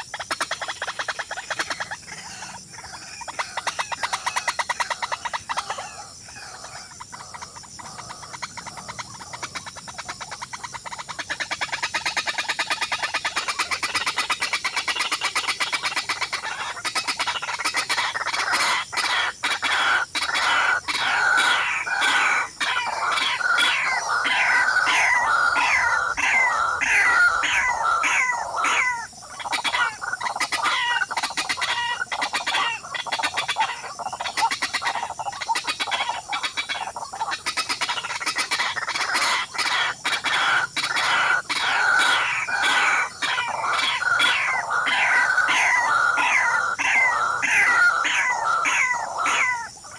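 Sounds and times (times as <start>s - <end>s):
fowl clucking and calling: 0.0s - 49.9s.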